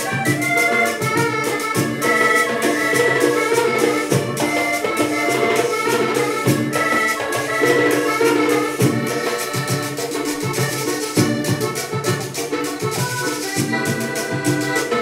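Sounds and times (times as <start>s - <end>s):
button accordion playing: 0.0s - 15.0s
hand percussion: 0.0s - 15.0s.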